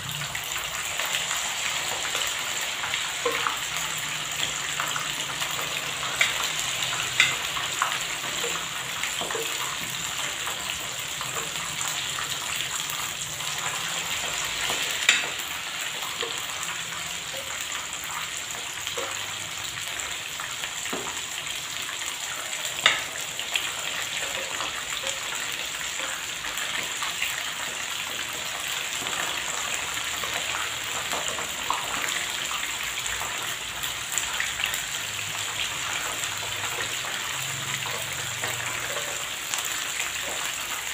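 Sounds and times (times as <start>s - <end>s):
deep-frying sizzling hiss: 0.0s - 40.9s.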